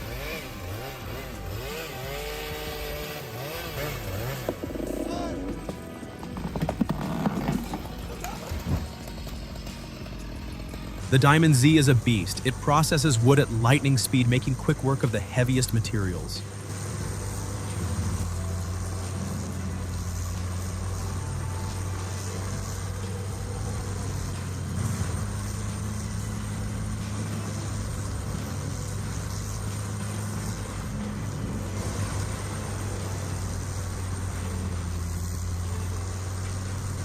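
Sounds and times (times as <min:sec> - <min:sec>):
wood grinder droning: 0:00.0 - 0:37.0.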